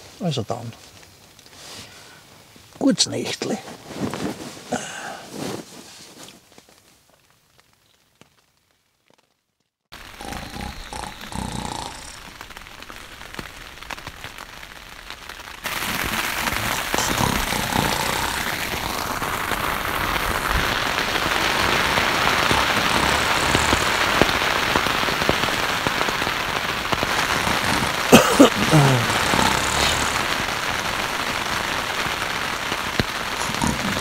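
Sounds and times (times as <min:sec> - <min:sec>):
rain on a tent: 0:00.0 - 0:34.0.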